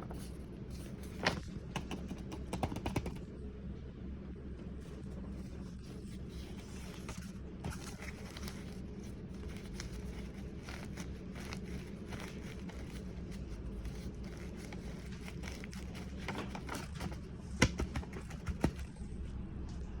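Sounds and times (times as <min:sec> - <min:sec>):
crinkling and rustling of handling: 0:00.0 - 0:03.2, 0:04.6 - 0:19.8
steady low hum: 0:00.0 - 0:20.0.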